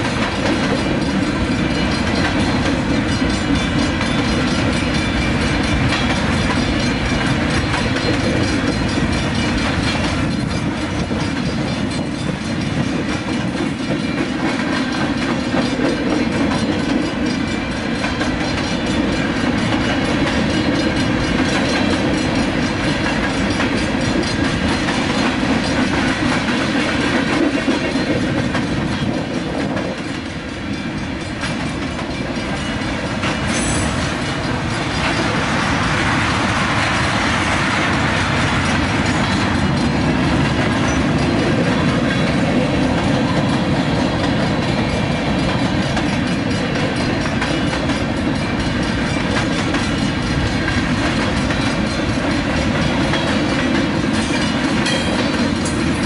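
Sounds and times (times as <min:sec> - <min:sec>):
steel wheels rushing on rail: 0:00.0 - 0:56.0.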